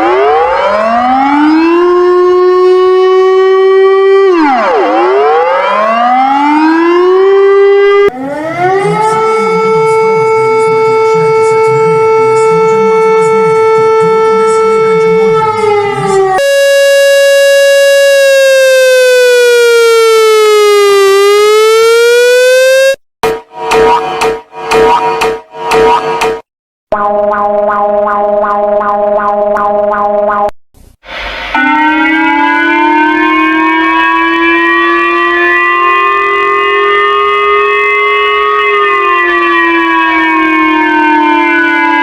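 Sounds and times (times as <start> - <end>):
steady siren tone: 0.0 - 26.4, 31.1 - 42.0
warning siren winding up: 0.0 - 30.0, 31.5 - 42.0.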